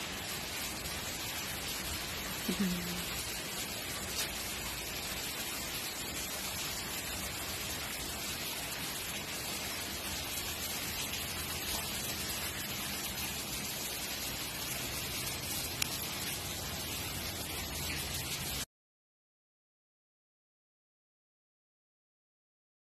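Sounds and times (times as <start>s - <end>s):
steady rain falling: 0.0s - 18.7s.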